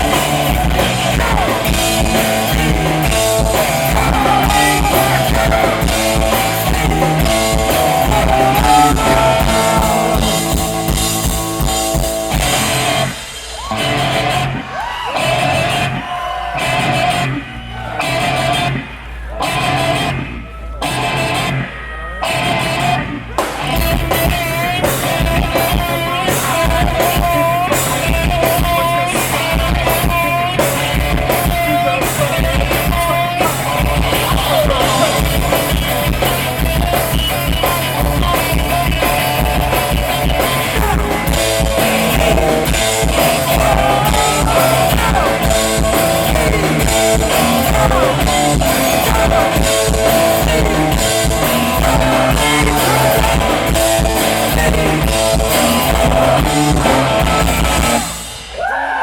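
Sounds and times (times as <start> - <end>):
rock band playing loud: 0.0 - 59.0.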